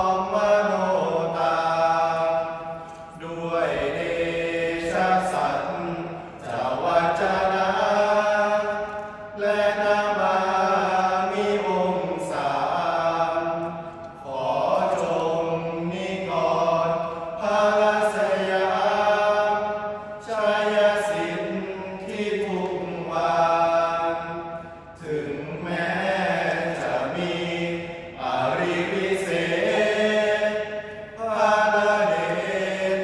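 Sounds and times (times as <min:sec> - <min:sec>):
men chanting together: 0:00.0 - 0:33.0.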